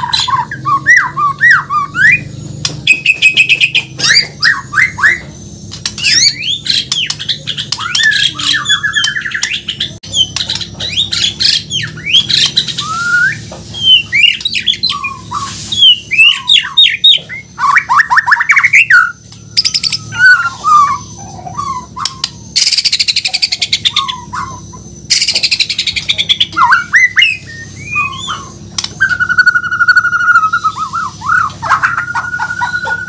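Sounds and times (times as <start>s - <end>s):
bird singing whistles and trills: 0.0s - 33.0s
harsh rattling bird call: 0.0s - 33.0s.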